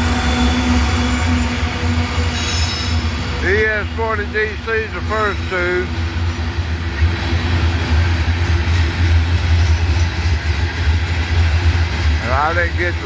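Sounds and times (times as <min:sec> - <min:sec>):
low locomotive engine drone: 0:00.0 - 0:13.0
rumble of rail noise: 0:00.0 - 0:13.0.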